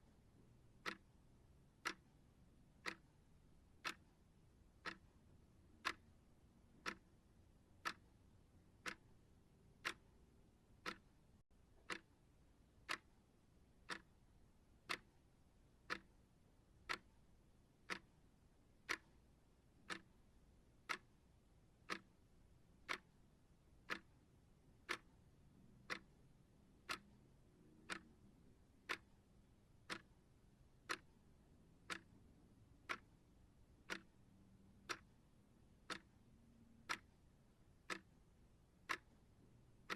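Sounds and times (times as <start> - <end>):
timer ticking: 0.6 - 9.2, 9.8 - 11.2, 11.8 - 12.2, 12.8 - 13.2, 13.8 - 14.2, 14.8 - 15.2, 15.8 - 17.2, 17.8 - 18.2, 18.8 - 20.2, 20.8 - 21.2, 21.8 - 39.9.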